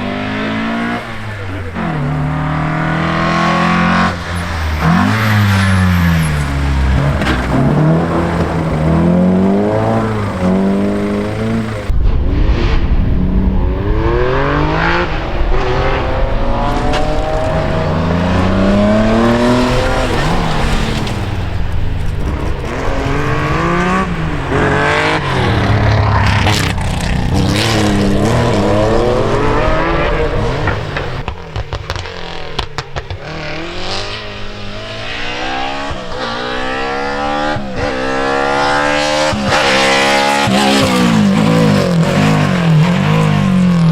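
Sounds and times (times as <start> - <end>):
rally car engines accelerating: 0.0 - 43.9.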